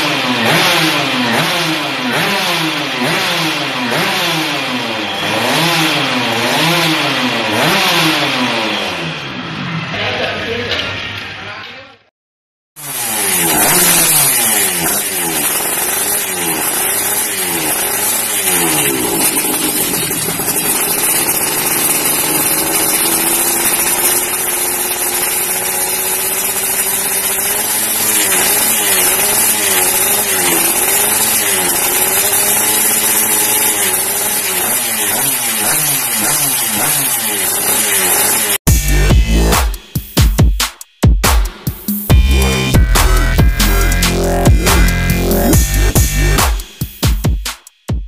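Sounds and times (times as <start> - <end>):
two-stroke motorcycle engine revving: 0.0 - 10.8, 12.8 - 40.6, 41.2 - 47.4.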